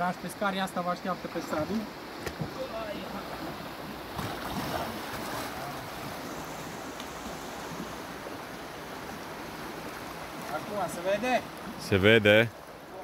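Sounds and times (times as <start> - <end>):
shallow river over stones: 0.0 - 13.0.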